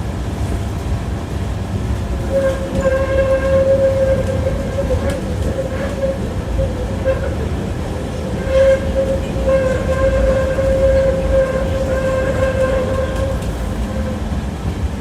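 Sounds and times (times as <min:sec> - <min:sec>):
tram rumble: 0:00.0 - 0:15.0.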